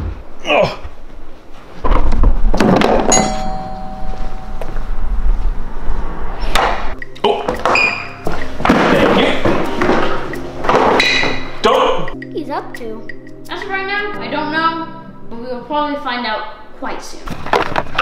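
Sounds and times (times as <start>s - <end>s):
background music: 3.1s - 17.8s.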